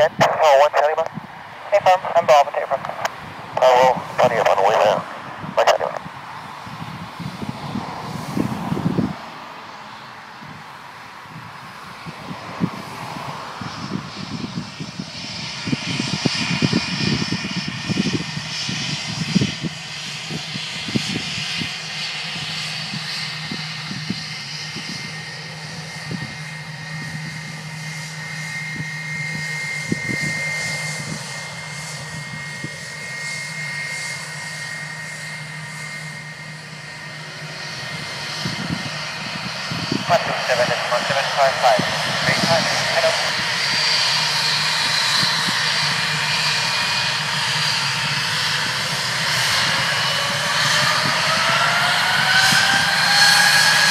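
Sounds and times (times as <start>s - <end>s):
jet engines whining at taxi power: 0.0s - 53.9s.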